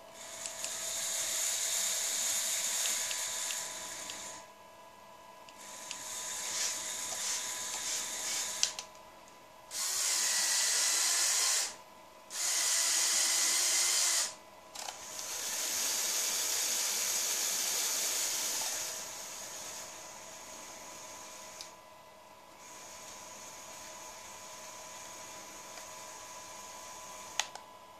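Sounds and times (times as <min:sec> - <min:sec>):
small electric motors whirring: 0:00.2 - 0:04.5, 0:05.5 - 0:08.8, 0:09.7 - 0:21.8, 0:22.6 - 0:27.6.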